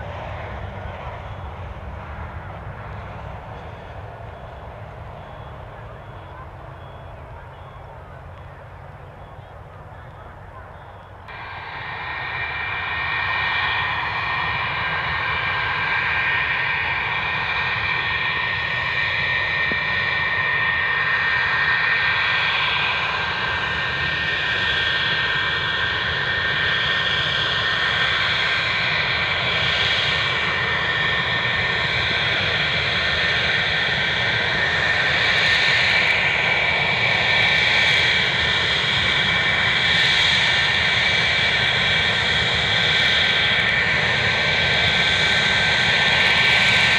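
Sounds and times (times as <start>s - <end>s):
jet engines whining: 0.0s - 46.9s.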